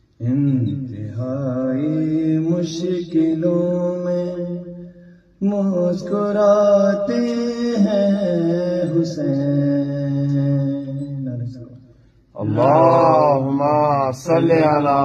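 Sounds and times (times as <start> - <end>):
man chanting: 0.2 - 15.0.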